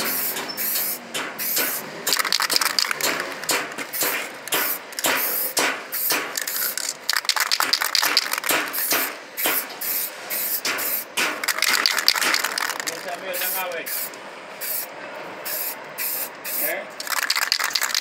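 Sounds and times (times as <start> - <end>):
spray can hissing: 0.0 - 18.0.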